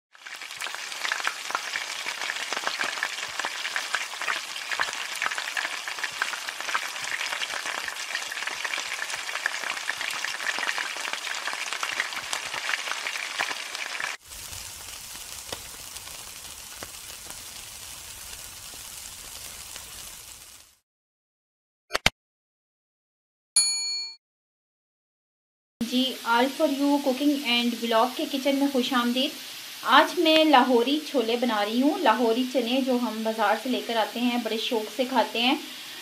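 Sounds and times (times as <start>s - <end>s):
food frying in hot oil: 0.1s - 20.8s, 25.8s - 36.0s.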